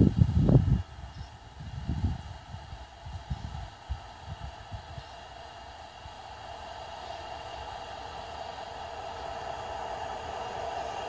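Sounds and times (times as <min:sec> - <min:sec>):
distant freight train hum: 0:00.0 - 0:11.0.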